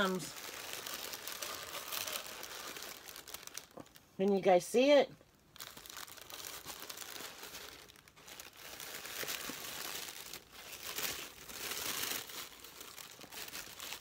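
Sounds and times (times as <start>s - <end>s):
tissue paper crinkling: 0.0s - 4.6s, 5.3s - 14.0s.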